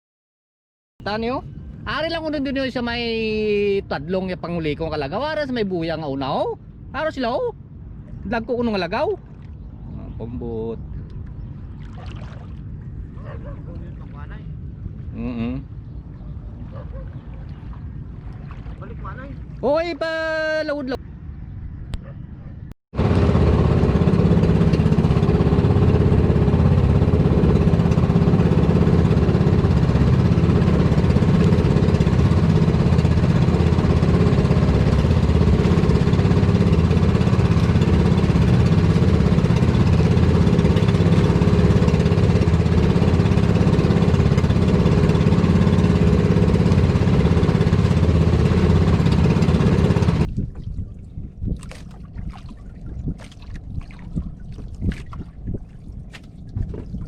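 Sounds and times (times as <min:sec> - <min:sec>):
small boat engine running: 0:01.0 - 0:21.0, 0:23.0 - 0:57.0.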